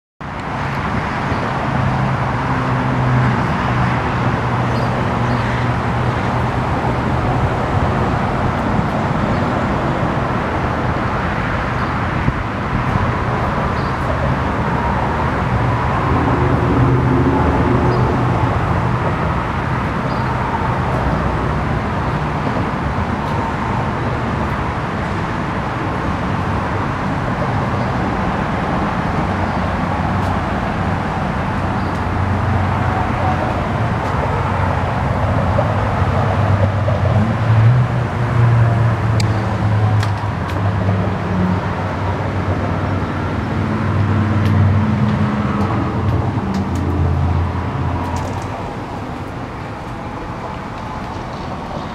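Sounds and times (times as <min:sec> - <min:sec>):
road traffic noise: 0:00.2 - 0:51.9
vehicles passing: 0:00.2 - 0:51.9.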